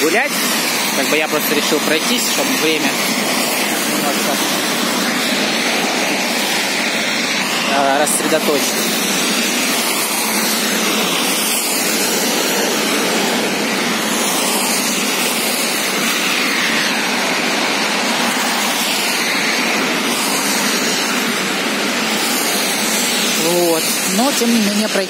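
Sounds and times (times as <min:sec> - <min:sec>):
rain falling: 0:00.0 - 0:25.0
tyres swishing on wet road: 0:00.0 - 0:25.0.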